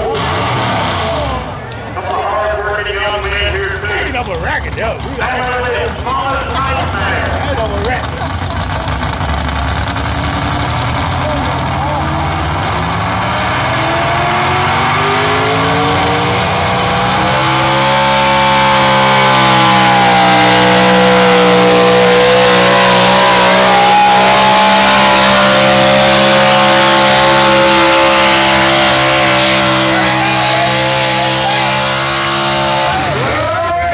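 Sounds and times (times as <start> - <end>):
monster truck engine revving: 0.0 - 33.9.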